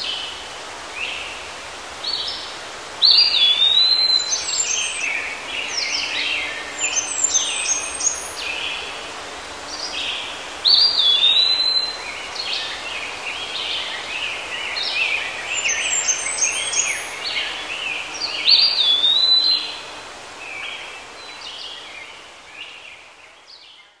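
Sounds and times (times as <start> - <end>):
forest birds chirping and whistling: 1.0 - 24.0.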